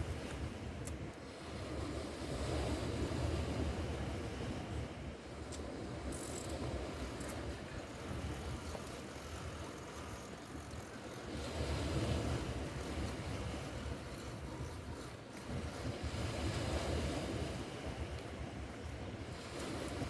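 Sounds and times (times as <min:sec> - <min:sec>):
sea surf: 0:00.0 - 0:20.0
wind buffeting microphone: 0:00.0 - 0:20.0.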